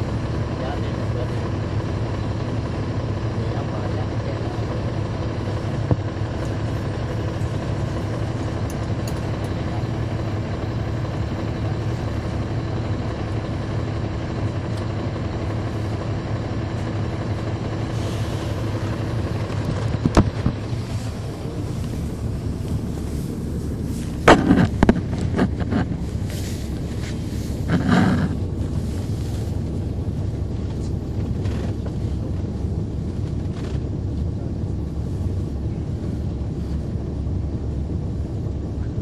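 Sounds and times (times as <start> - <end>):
bus diesel engine drone: 0.0 - 39.0.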